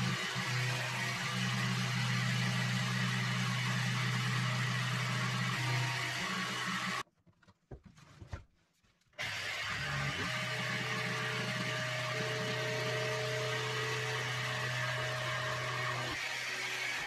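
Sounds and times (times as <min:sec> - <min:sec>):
jigsaw cutting: 0:00.0 - 0:07.0, 0:09.2 - 0:17.0.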